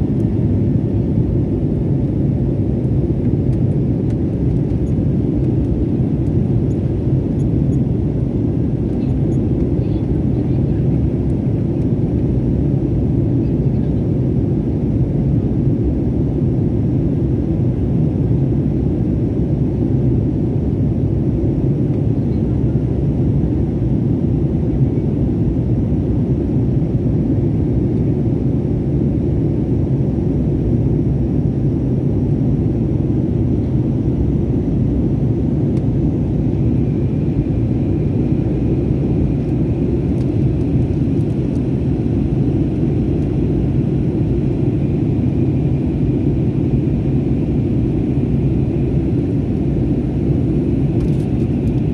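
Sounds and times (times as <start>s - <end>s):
plane engines and airflow rumble: 0.0s - 51.9s.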